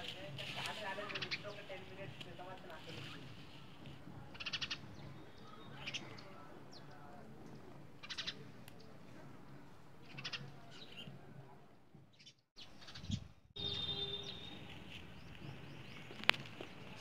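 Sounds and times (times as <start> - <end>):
small birds chirping: 0.2 - 9.0, 10.0 - 11.4, 12.1 - 17.0.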